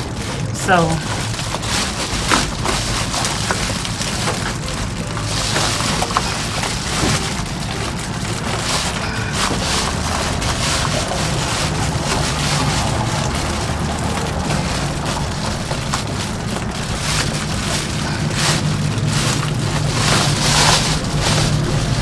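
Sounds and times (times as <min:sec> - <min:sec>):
foil insulation crinkling: 0:00.0 - 0:22.0.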